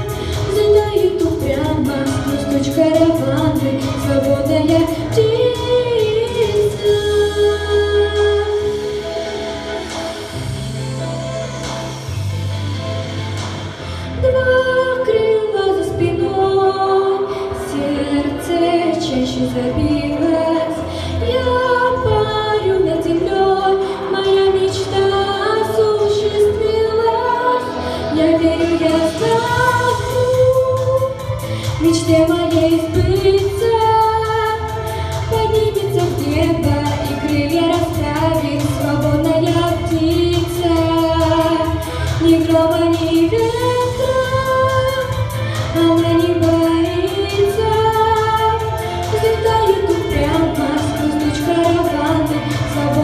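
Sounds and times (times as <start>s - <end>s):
girl singing pop song: 0.0s - 9.5s, 13.8s - 53.0s
backing track: 0.0s - 53.0s.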